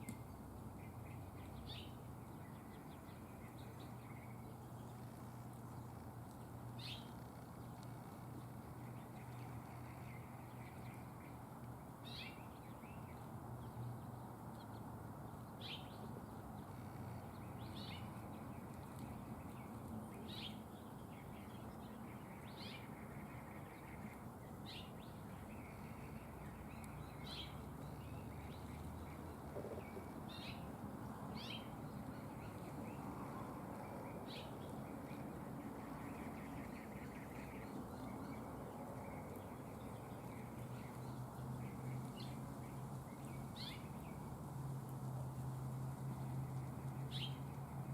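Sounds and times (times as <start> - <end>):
steady low background noise: 0.0 - 47.9.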